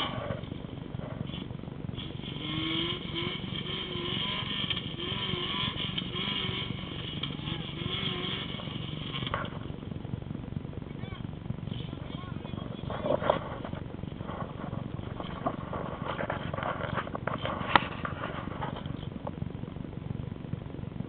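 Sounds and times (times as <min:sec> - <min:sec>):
faint engine revving: 0:00.0 - 0:21.0
steady low rumble: 0:00.0 - 0:21.0.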